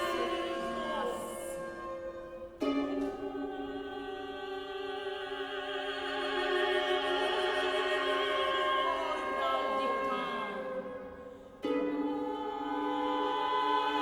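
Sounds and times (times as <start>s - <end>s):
operatic singing with vibrato: 0.0s - 14.0s.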